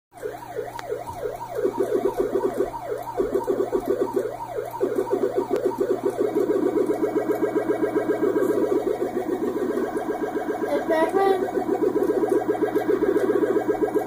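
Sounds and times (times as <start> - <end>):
siren wailing and warbling: 0.2 - 14.0
steady low hum: 0.8 - 14.0.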